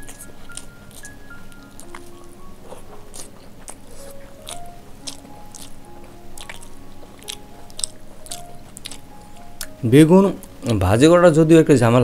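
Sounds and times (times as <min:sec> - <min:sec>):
chewing rice: 0:00.0 - 0:09.8
soft background music: 0:00.0 - 0:12.0.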